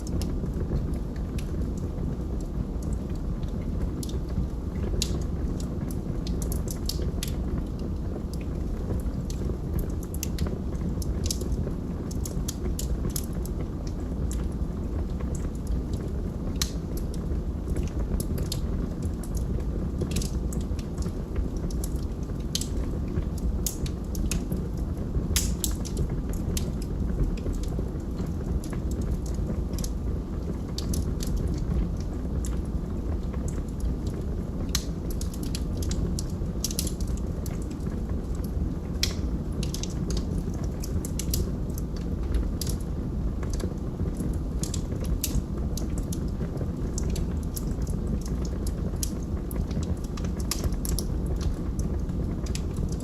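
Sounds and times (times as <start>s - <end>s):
log fire crackling: 0.0s - 53.0s.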